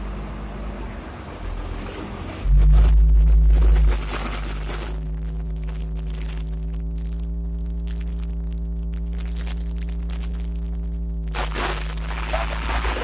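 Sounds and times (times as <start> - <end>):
diesel engine idling low hum: 0.0 - 13.0.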